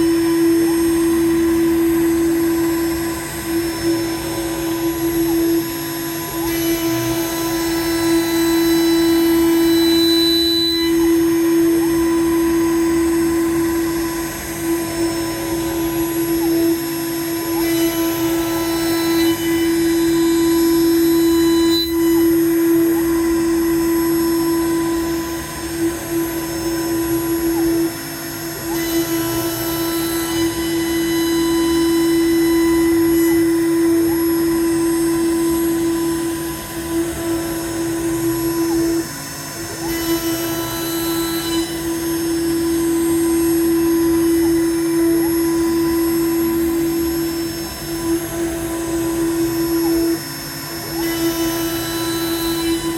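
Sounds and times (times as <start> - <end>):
router spindle milling hum: 0.0 - 52.9.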